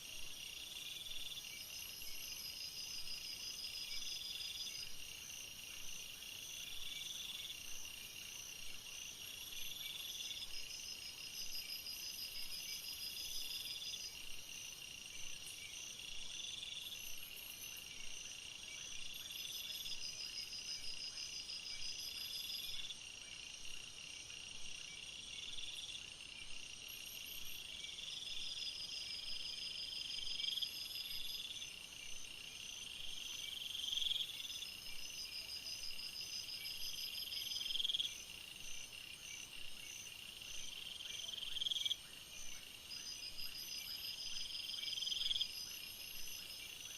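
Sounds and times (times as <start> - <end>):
insect high call: 0.0 - 46.9.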